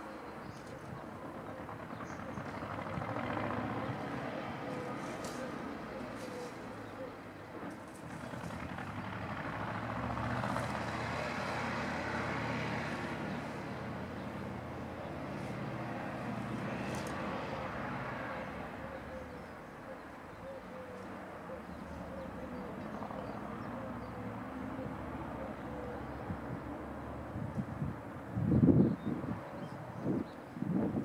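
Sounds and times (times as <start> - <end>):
distant engine drone: 0.0 - 29.9.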